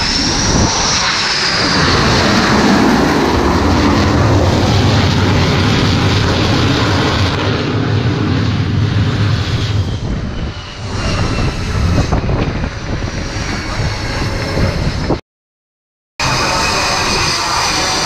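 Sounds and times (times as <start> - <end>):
jet engine noise: 0.0 - 15.2, 16.2 - 18.0.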